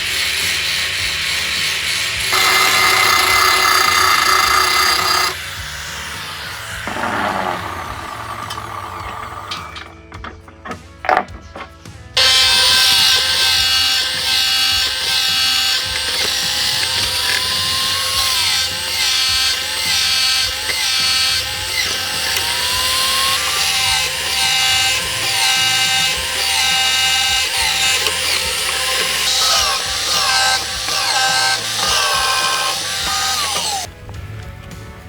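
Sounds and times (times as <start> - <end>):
power tool grinding steel: 0.0 - 10.1, 12.1 - 33.9.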